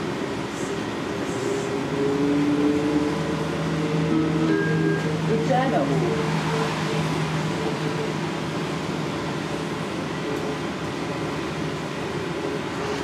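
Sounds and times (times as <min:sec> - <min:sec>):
road noise: 0:00.0 - 0:13.0
trolleybus whirring hum: 0:00.0 - 0:13.0.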